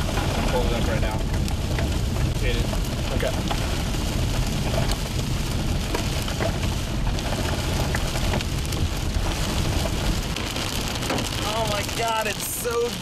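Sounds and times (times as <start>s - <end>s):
hail pelting a vehicle: 0.0s - 13.0s
low continuous rumble: 0.0s - 13.0s.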